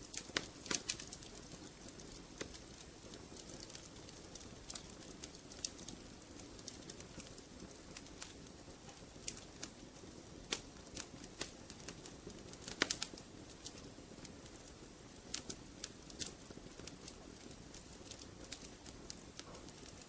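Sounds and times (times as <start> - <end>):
fire crackling in a fireplace: 0.0 - 20.0.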